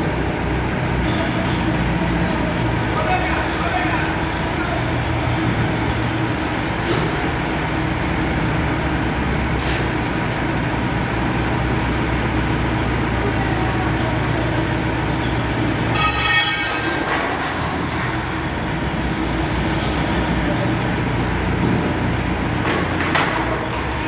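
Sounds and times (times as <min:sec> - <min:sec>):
diesel crane engine running: 0:00.0 - 0:24.0.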